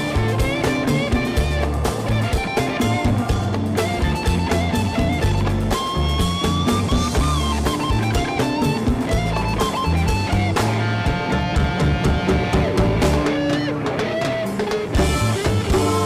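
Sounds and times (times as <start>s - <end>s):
instrumental rock music: 0.0s - 16.0s
lead guitar with bending notes: 0.0s - 16.0s.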